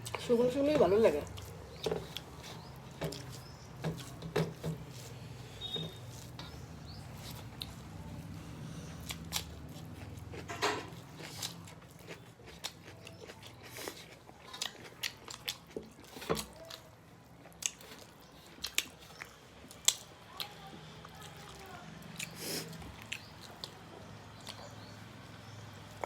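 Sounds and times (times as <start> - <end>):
chewing and crunching food: 0.0 - 26.0.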